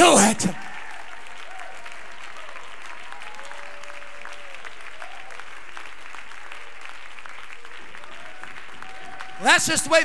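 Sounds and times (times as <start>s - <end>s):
congregation applauding: 0.0s - 10.0s.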